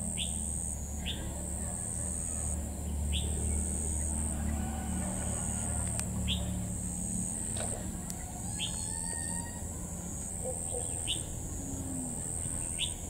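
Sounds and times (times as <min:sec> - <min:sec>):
continuous low drone: 0:00.0 - 0:13.0
insects buzzing trill: 0:00.0 - 0:13.0.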